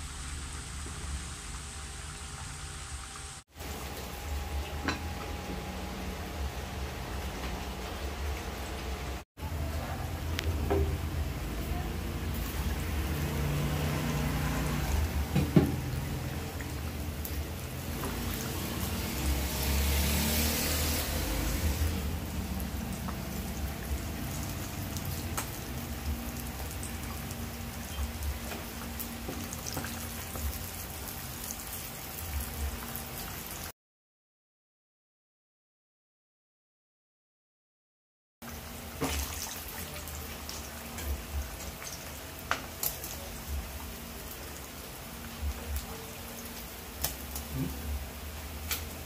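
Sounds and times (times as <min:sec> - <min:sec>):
fish frying in hot oil: 0:00.0 - 0:33.7, 0:38.4 - 0:49.0.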